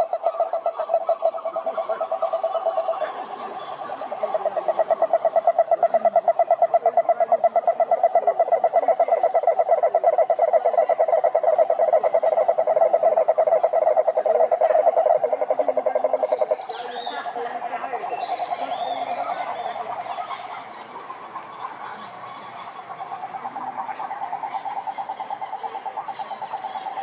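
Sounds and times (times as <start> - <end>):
toad calling in low trill: 0.0 - 20.4, 22.5 - 27.0.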